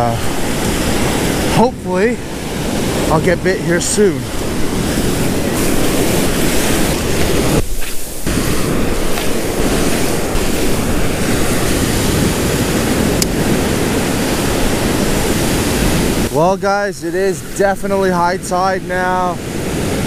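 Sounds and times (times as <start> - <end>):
ocean surf breaking on sand: 0.0 - 20.0.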